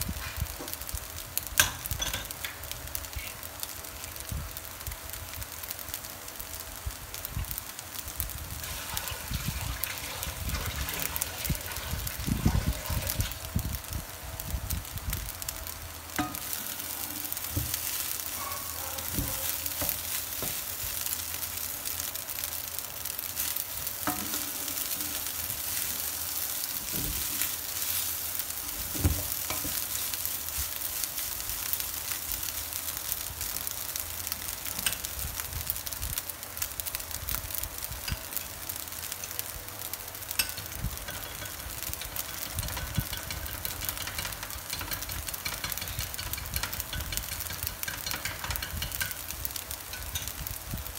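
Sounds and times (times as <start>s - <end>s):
food sizzling in a frying pan: 0.0s - 50.9s.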